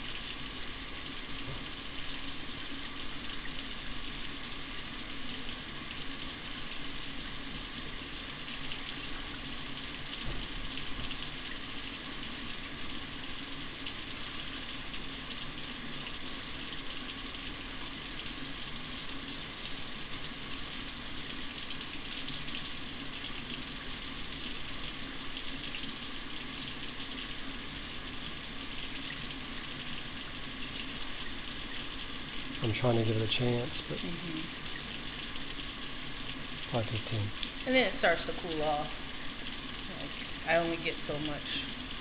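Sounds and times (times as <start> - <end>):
water running from a tap: 0.0 - 42.0.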